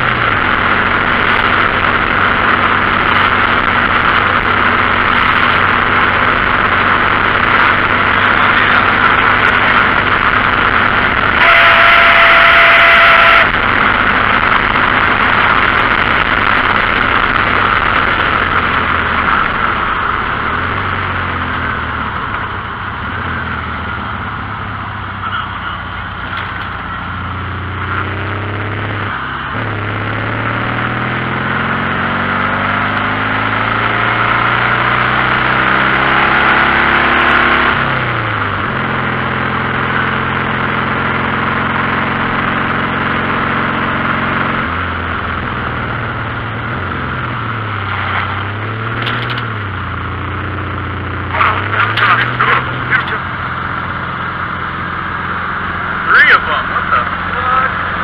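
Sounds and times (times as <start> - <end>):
car engine pulling: 0.0 - 58.0
wind and road noise: 0.0 - 58.0.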